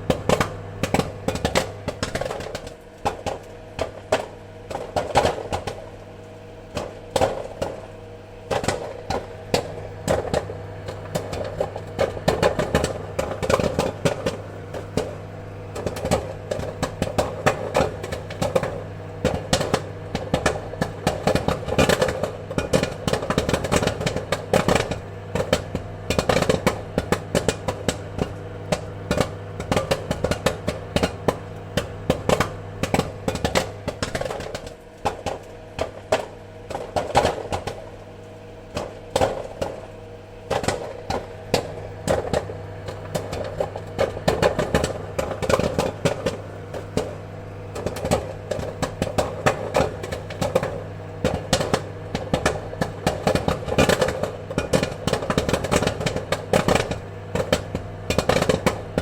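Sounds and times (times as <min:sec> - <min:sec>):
popcorn popping: 0:00.0 - 0:59.0.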